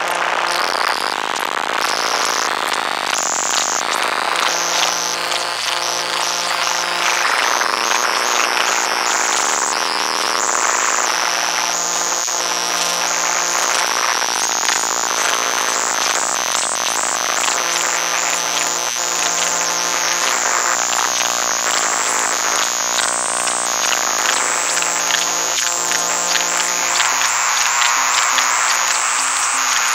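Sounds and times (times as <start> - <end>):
harsh electromagnetic motor noise: 0.0 - 29.9.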